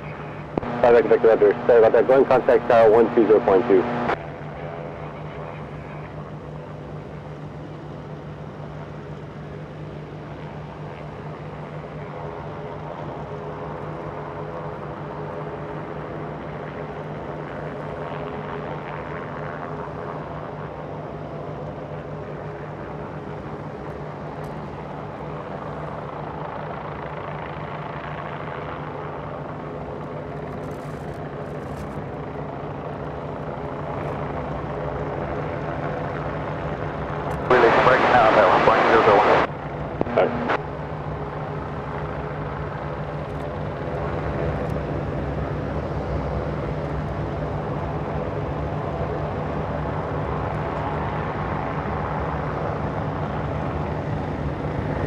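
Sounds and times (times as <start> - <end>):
jet engines humming and whining: 0.0 - 55.0.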